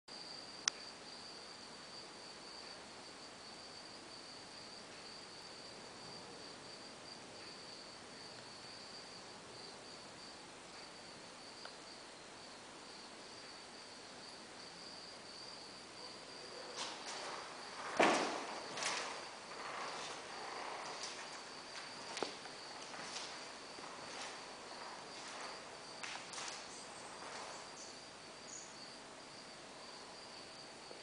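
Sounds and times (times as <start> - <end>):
high-pitched insect trill: 0.1 - 31.0.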